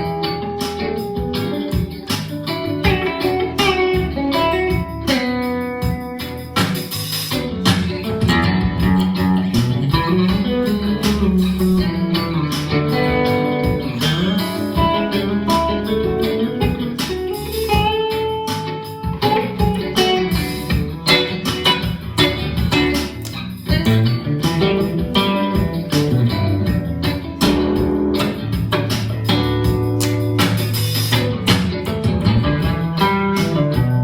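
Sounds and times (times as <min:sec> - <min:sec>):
electric guitar lead melody: 0:00.0 - 0:34.0.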